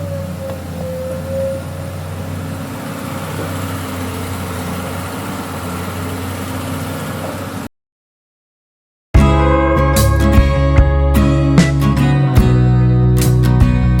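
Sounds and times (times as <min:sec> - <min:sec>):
excavator diesel engine running: 0:00.0 - 0:07.7, 0:09.2 - 0:12.8.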